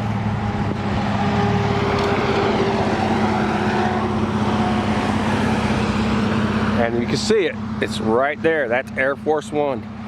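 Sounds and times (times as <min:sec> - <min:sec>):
engine humming: 0:00.0 - 0:10.0
faint engine whine: 0:00.0 - 0:10.0.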